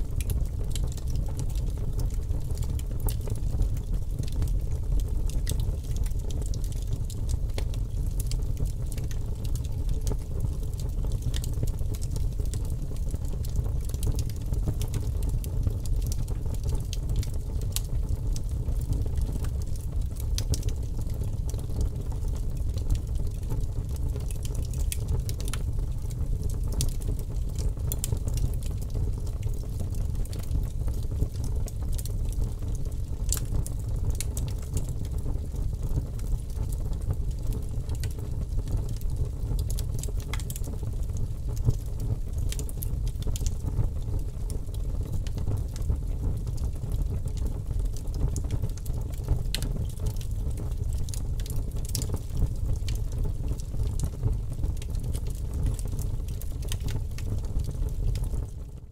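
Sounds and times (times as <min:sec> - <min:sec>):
fire crackling and popping: 0:00.0 - 0:58.9
wood fire low rumble: 0:00.0 - 0:58.9.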